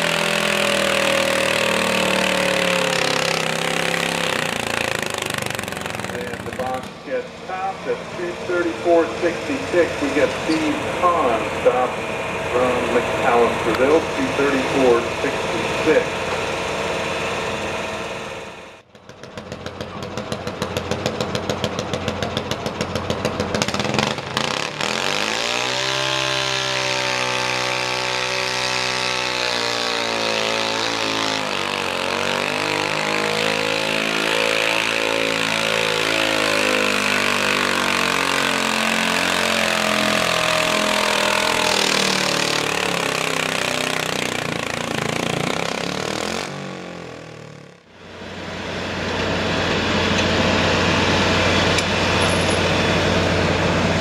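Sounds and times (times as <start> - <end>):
garden tractor engine straining: 0.0 - 54.0.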